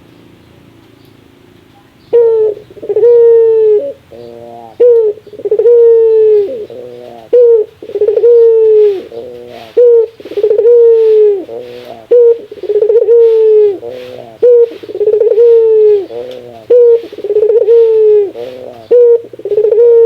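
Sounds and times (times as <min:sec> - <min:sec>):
dove cooing: 0:01.8 - 0:20.0.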